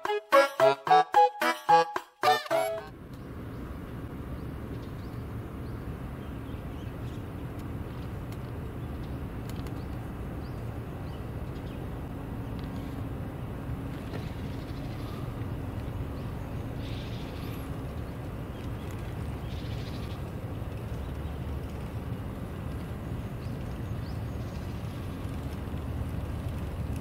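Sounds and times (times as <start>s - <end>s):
car engine and road rumble: 2.9s - 27.0s
faint constant hum: 2.9s - 27.0s.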